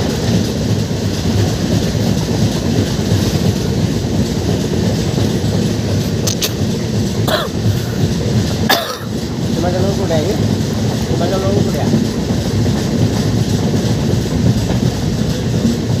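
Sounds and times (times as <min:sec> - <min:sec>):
train coach rattling: 0:00.0 - 0:16.0
train wheels on rails: 0:00.0 - 0:16.0.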